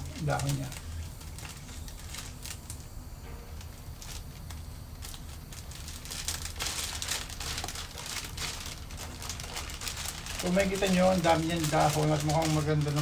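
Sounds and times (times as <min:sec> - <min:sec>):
plastic sleeve crinkling: 0:00.0 - 0:13.0
steady low hum: 0:00.0 - 0:13.0.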